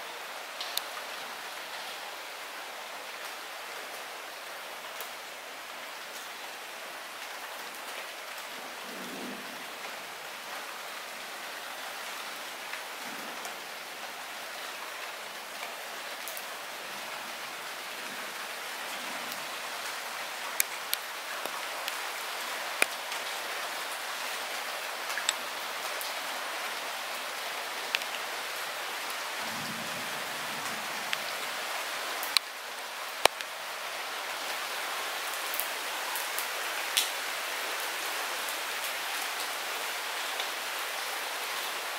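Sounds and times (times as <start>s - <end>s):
light rain falling: 0.0s - 41.9s.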